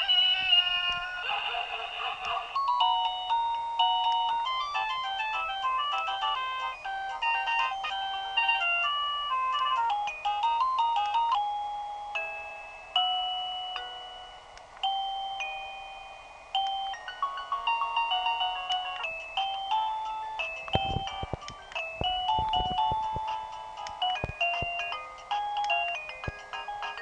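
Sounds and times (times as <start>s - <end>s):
electronic doorbell chime: 2.6s - 27.0s.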